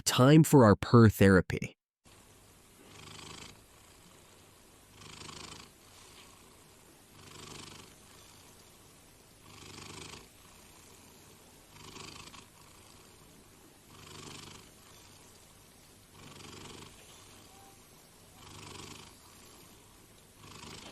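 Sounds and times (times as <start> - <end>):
cat purring softly: 2.8 - 20.9.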